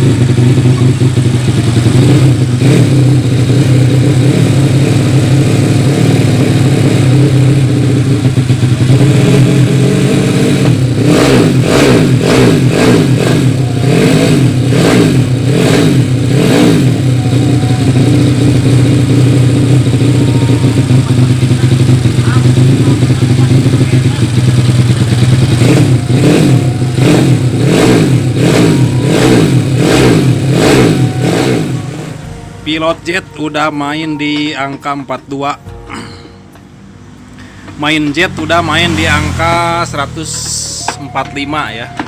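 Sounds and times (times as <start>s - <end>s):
engine revving in throttle blips: 0.0s - 42.0s
motorcycle engine running: 0.0s - 42.0s.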